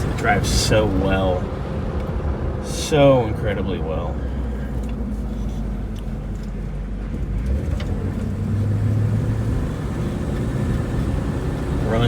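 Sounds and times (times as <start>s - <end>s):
car engine running: 0.0s - 12.0s
road and tyre rumble: 0.0s - 12.0s.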